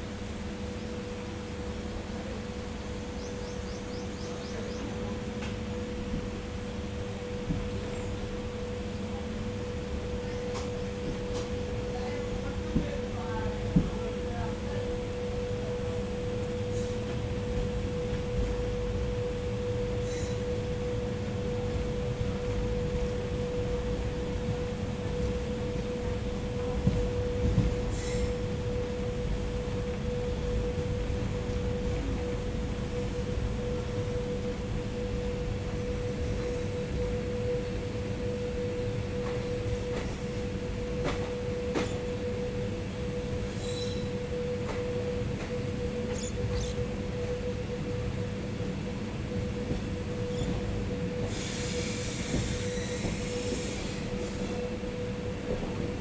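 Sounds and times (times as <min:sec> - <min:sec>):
constant train whine: 0:00.0 - 0:56.0
train low rumble: 0:00.0 - 0:56.0.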